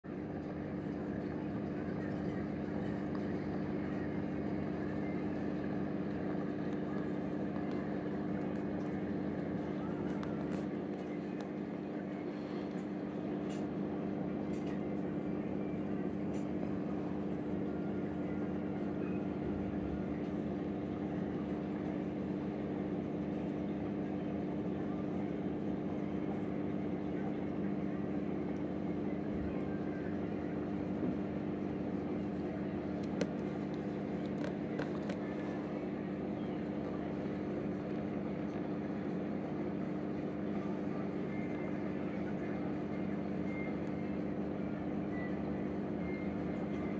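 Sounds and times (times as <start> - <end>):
aquarium pump humming: 0.0 - 46.9.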